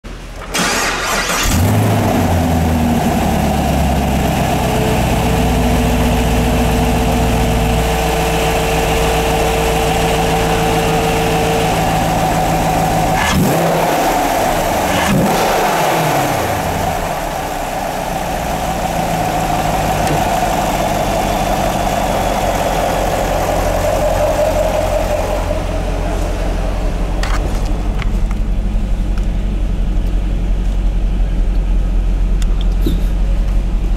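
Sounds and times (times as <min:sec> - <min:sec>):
car engine starting and idling: 0:00.1 - 0:33.9
car engine revving: 0:00.6 - 0:31.4.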